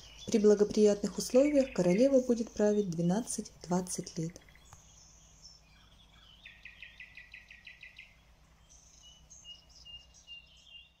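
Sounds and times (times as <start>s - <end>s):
bird trilling: 0.0s - 11.0s.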